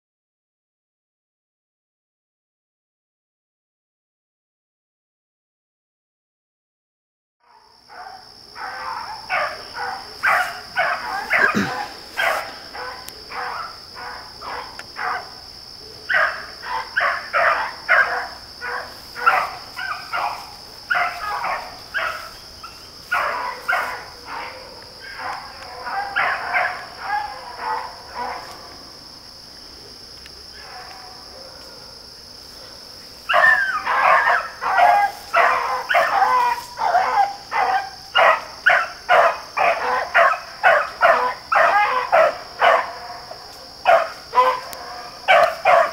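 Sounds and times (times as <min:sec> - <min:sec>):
hounds baying: 0:07.5 - 0:29.0, 0:30.5 - 0:45.9.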